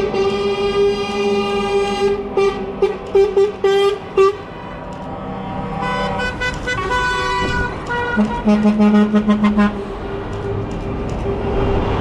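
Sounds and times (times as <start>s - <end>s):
truck air horn: 0.0s - 10.2s.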